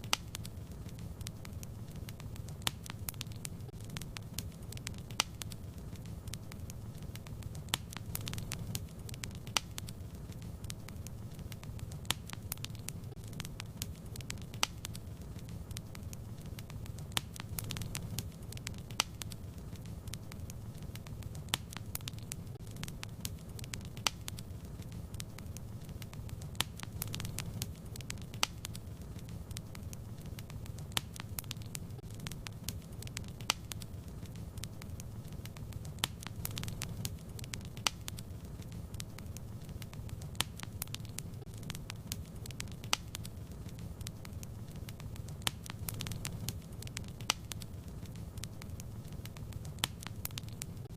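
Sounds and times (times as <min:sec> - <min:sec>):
fire flames rumbling: 0:00.0 - 0:50.9
wood fire crackling and popping: 0:00.0 - 0:50.9.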